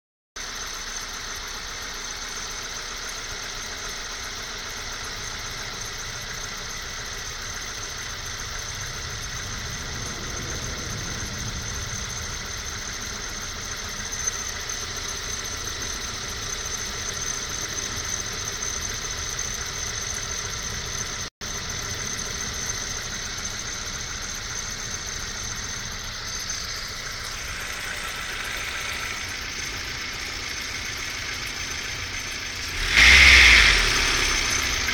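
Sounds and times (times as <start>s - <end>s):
car engine idling: 0.4s - 34.9s
high-pitched squeal: 5.0s - 34.9s.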